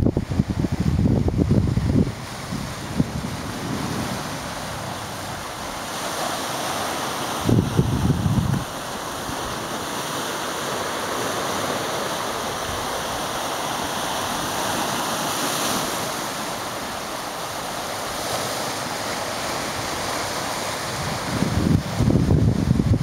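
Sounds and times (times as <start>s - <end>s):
surf on rocky shoreline: 0.0s - 23.0s.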